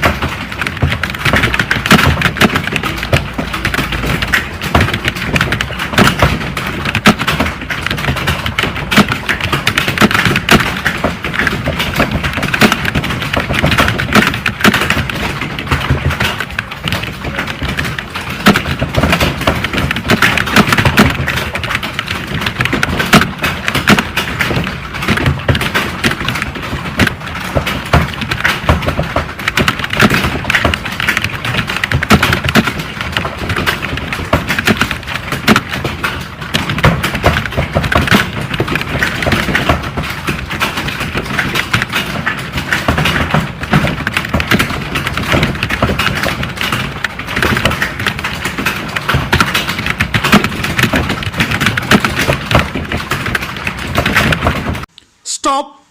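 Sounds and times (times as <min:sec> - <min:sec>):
computer keyboard typing: 0:00.0 - 0:54.9.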